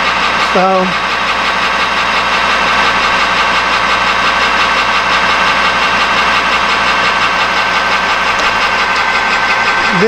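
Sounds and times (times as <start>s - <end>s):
metal lathe whining: 0.0s - 10.0s.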